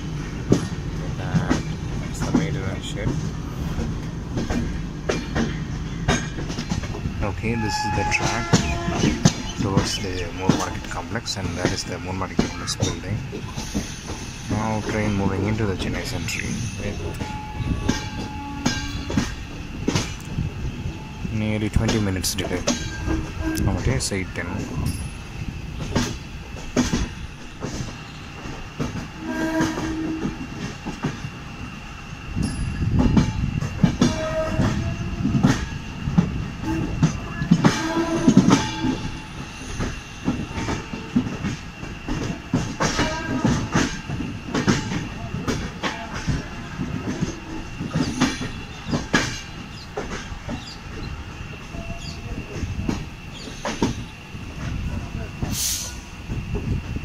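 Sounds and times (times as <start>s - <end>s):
train wheels knocking over rail joints: 0.1s - 20.5s, 21.6s - 24.0s, 25.8s - 31.3s, 32.4s - 55.7s.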